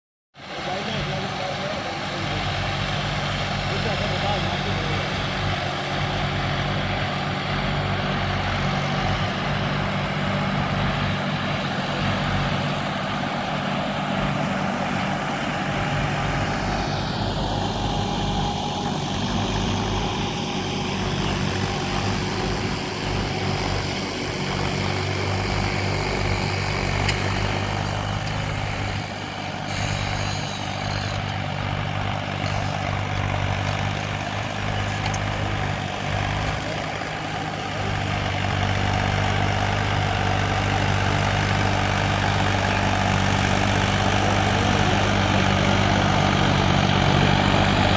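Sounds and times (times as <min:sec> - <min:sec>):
tractor diesel engine under load: 0:00.4 - 0:47.9.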